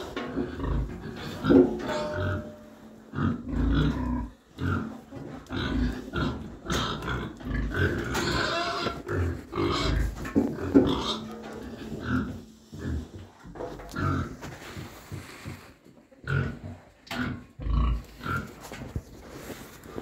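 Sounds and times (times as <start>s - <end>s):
pig grunting: 0.0s - 14.5s, 16.2s - 18.6s.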